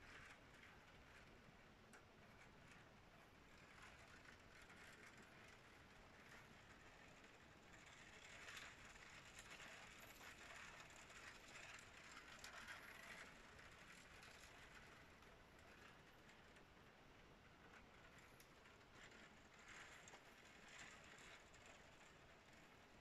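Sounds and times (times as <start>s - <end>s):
faint steady rain: 0.0s - 23.0s
light ticks of raindrops: 0.1s - 23.0s.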